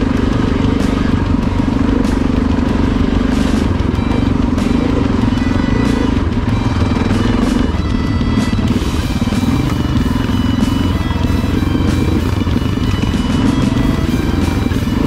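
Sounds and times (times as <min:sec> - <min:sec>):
motorcycle engine running: 0:00.0 - 0:15.0
music: 0:00.0 - 0:15.0.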